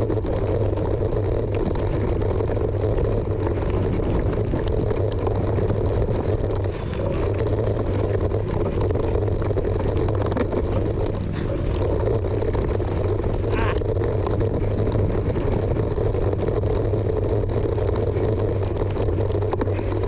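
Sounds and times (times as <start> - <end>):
bike clicks and rattles: 0.0 - 20.0
wind and tyre rumble: 0.0 - 20.0.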